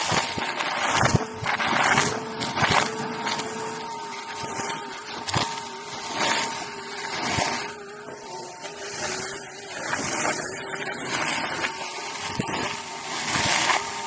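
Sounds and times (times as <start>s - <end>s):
vacuum cleaner motor running: 0.0s - 14.0s
vacuum sucking up crunchy debris: 0.0s - 14.0s.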